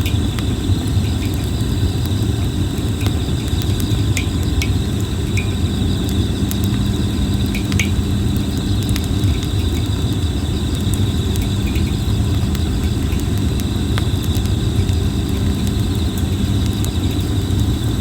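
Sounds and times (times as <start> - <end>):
campfire crackling and popping: 0.0 - 18.0
insects chirring: 0.0 - 18.0.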